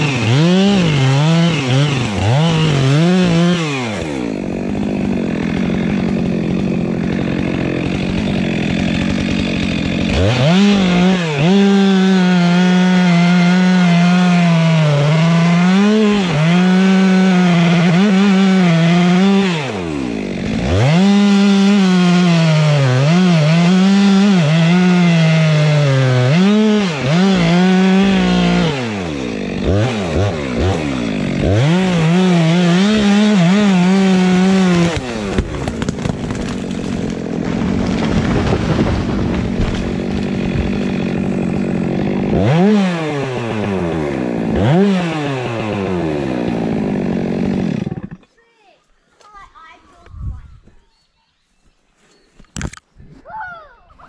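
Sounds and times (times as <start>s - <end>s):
chainsaw cutting wood: 0.0s - 48.4s.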